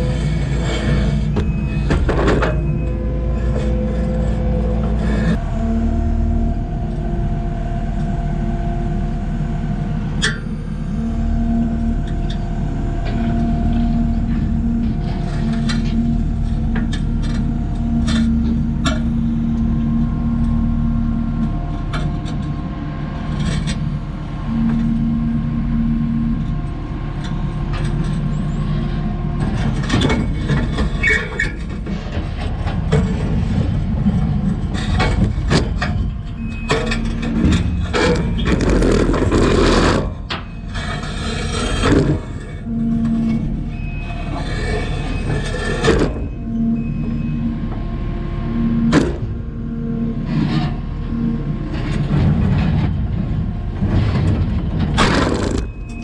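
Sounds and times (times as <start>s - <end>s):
diesel engine running under load: 0.0s - 56.0s
hydraulic whine: 0.0s - 56.0s.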